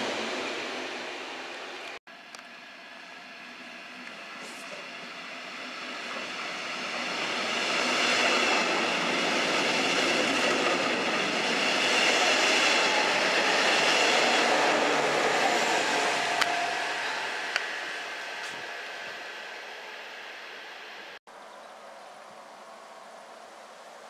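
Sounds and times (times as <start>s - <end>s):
train running past: 0.0s - 21.2s.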